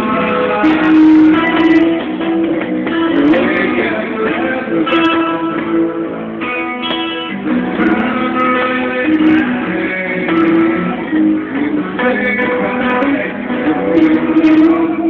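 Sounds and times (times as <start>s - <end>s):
guitar strummed: 0.0s - 15.0s.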